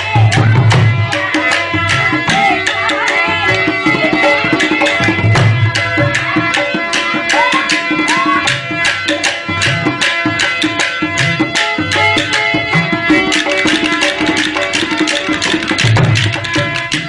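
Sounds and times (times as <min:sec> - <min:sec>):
drum beating quick rhythm: 0:00.0 - 0:17.0.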